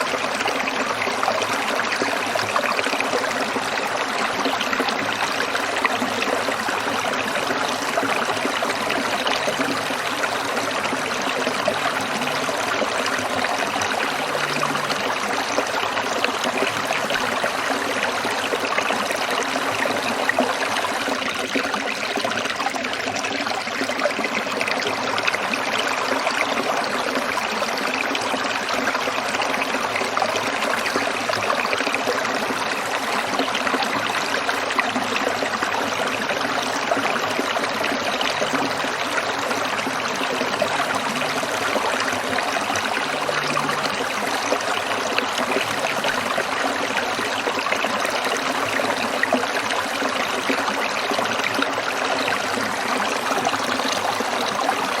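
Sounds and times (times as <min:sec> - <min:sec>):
stream trickling over stones: 0:00.0 - 0:55.0.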